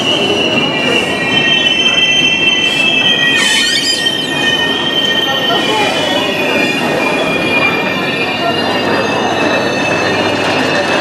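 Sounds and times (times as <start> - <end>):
train wheels squealing: 0.0 - 11.0
wavering high squeals: 0.2 - 9.6.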